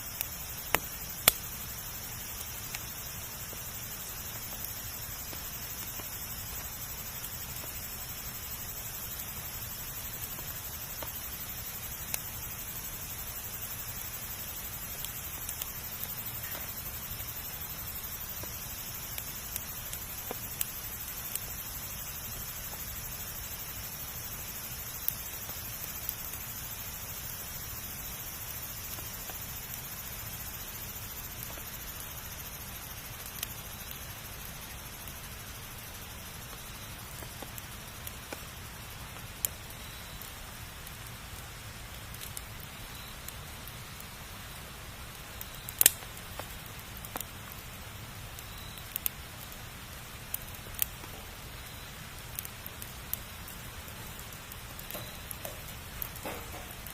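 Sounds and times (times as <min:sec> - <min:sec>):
campfire burning: 0:00.0 - 0:56.9.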